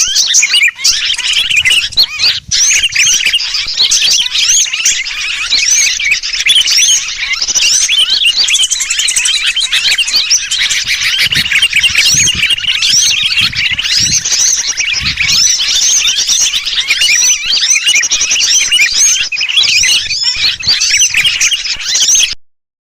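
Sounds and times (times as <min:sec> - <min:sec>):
bird distress calls: 0:00.0 - 0:22.4
small birds chattering: 0:00.0 - 0:22.4.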